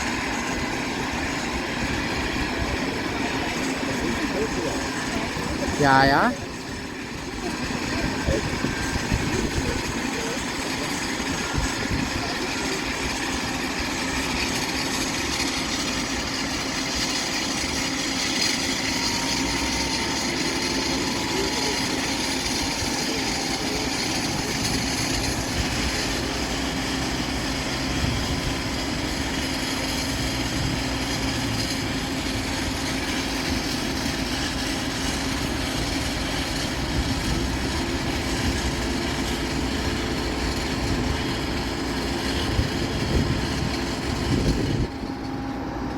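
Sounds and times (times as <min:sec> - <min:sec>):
jet turbine whine: 0:00.0 - 0:45.9.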